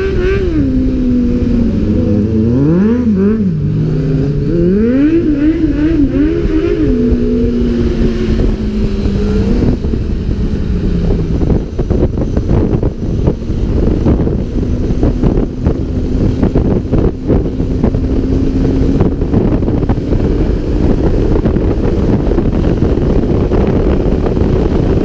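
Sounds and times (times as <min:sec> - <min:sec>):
motorcycle engine revving: 0:00.0 - 0:25.0
other motorcycle engines: 0:00.0 - 0:25.0
wind buffeting microphone: 0:00.0 - 0:25.0.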